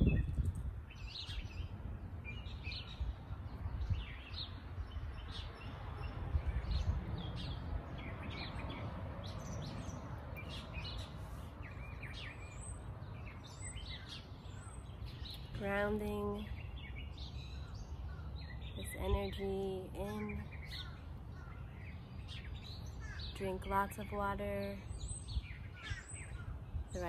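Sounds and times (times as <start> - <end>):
songbirds chirping: 0.0 - 27.0.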